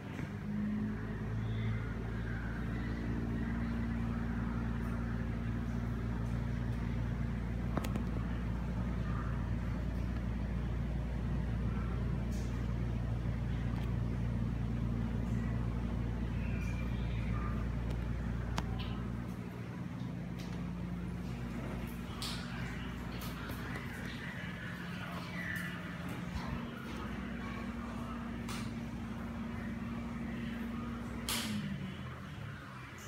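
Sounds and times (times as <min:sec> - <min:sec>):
exhaust fan humming: 0:00.0 - 0:33.0.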